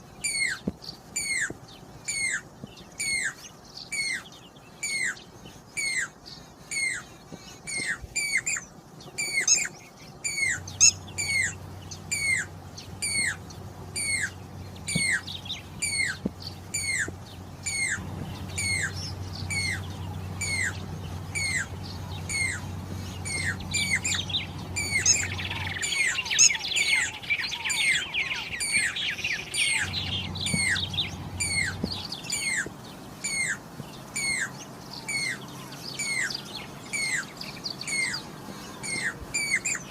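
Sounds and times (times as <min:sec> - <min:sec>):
low steady hum: 0:00.0 - 0:39.9
cuckoo whistled calls: 0:00.2 - 0:02.4, 0:09.2 - 0:13.4, 0:14.0 - 0:39.9
bird chattering notes: 0:01.2 - 0:35.4.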